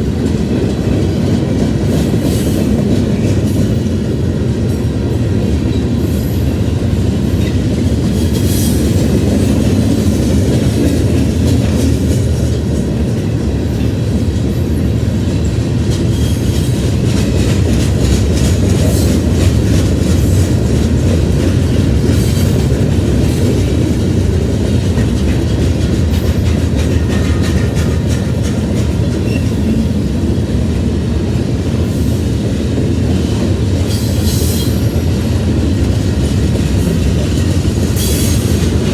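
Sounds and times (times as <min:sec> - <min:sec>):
wheels clacking over rail joints: 0:00.0 - 0:31.8, 0:32.5 - 0:38.9
freight train rumble: 0:00.0 - 0:38.9.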